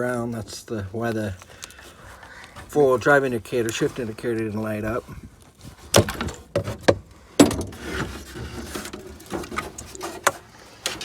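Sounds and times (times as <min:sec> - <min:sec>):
rustling: 0:00.3 - 0:11.0.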